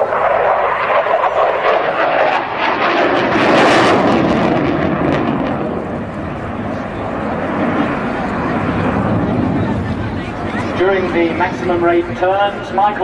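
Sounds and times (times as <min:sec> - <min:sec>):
fighter jet engine roar: 0:00.0 - 0:13.0.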